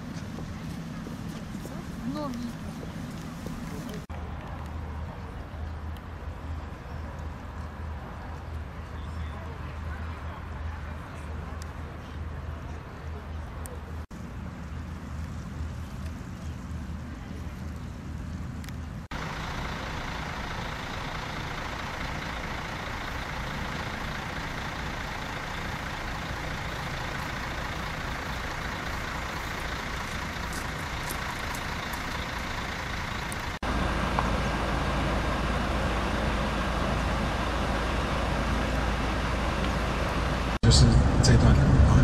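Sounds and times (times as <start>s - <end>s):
road hiss: 0.0s - 9.5s, 14.1s - 42.0s
vehicle engine rumble: 0.0s - 42.0s.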